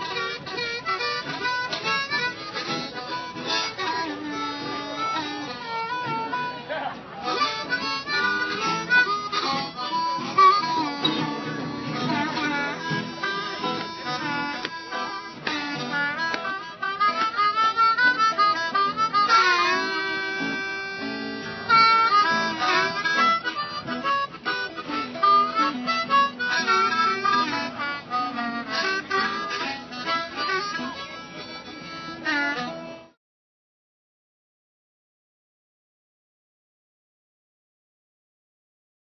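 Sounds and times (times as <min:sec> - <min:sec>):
acoustic guitar: 0:00.0 - 0:33.2
blues harmonica wailing: 0:00.0 - 0:33.2.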